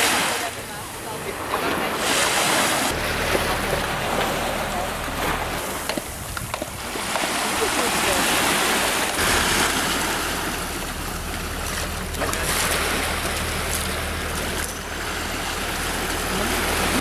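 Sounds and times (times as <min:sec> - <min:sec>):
water washing over stony shore: 0:00.0 - 0:17.0.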